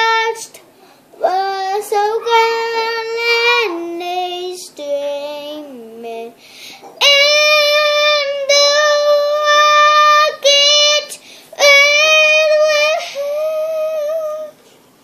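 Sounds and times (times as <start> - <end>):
girl singing unaccompanied: 0.0 - 14.6.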